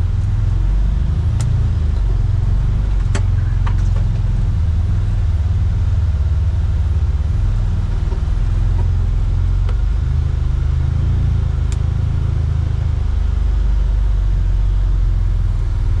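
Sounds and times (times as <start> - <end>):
utility vehicle engine droning: 0.0 - 16.0.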